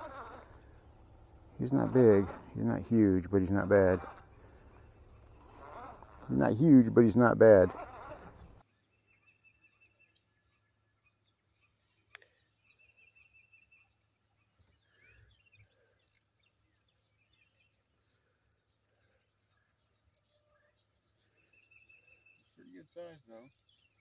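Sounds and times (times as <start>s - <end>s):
insect or bird chirping: 0.0s - 24.0s.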